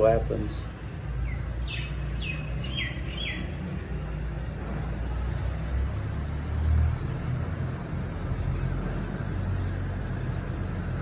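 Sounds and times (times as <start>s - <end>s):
nestlings chirping: 1.3s - 11.0s.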